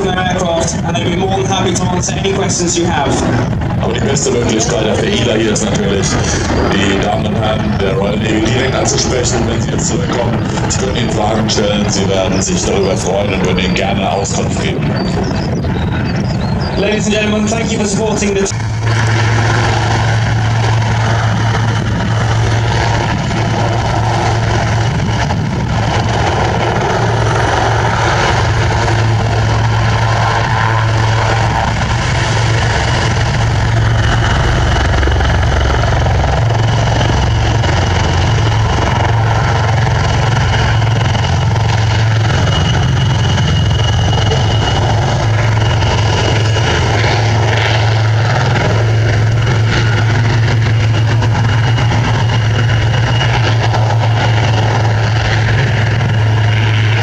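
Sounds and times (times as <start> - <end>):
helicopters droning: 0.0 - 57.0.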